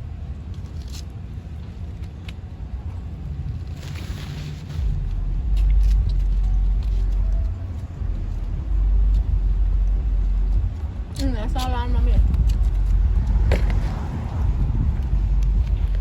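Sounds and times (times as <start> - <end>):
car rumbling inside cabin: 2.5 - 16.0.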